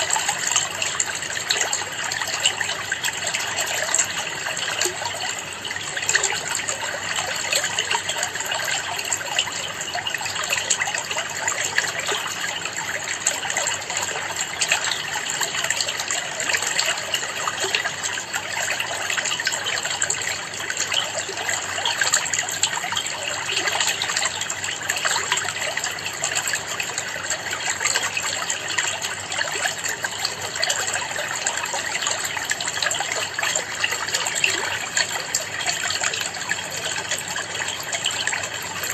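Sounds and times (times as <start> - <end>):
aquarium water trickling and splashing: 0.0 - 38.9.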